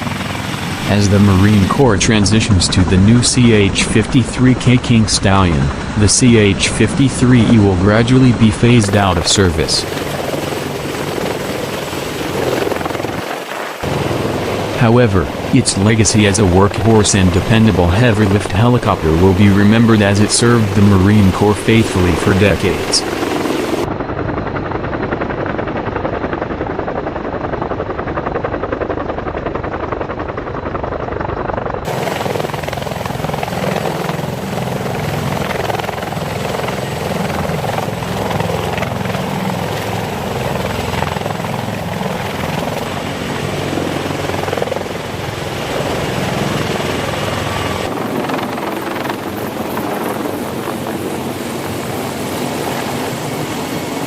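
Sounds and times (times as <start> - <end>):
helicopter rotors and turbines: 0.0 - 54.0.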